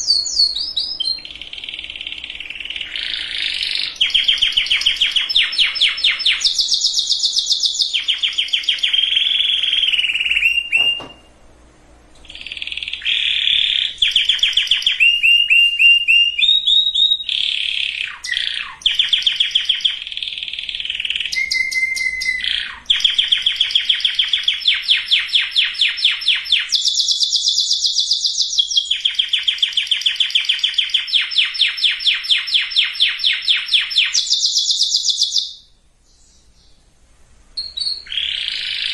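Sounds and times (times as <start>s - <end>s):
canary singing trills: 0.0s - 11.3s, 12.2s - 36.9s, 37.6s - 38.9s.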